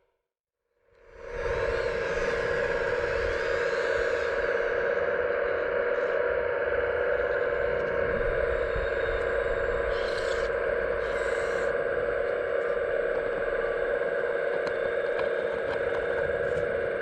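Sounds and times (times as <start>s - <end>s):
electric hydraulic pump whining: 1.7s - 17.0s.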